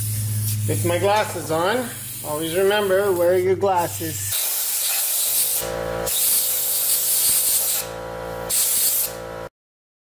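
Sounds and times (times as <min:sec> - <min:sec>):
steady hum: 0:00.0 - 0:04.3, 0:05.4 - 0:09.5
compressed air blow gun blasting: 0:00.0 - 0:09.4.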